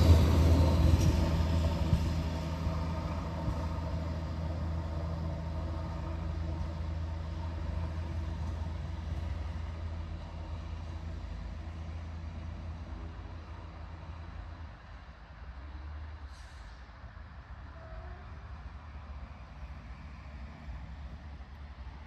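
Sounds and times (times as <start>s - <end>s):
diesel railcar engine droning: 0.0s - 22.0s.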